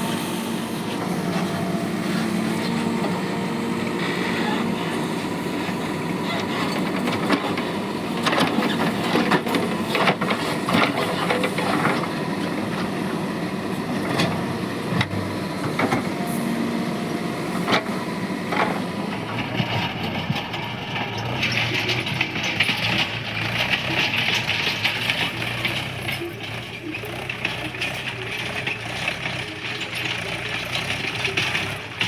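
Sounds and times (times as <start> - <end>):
backhoe diesel engine running: 0.0 - 32.0.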